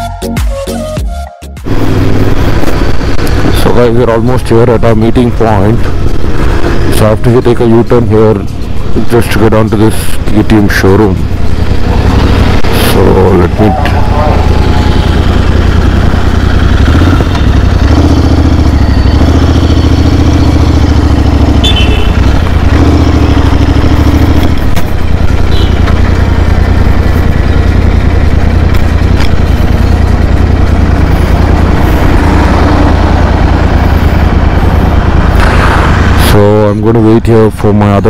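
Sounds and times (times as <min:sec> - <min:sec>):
motorcycle engine at low speed: 0:01.6 - 0:38.0.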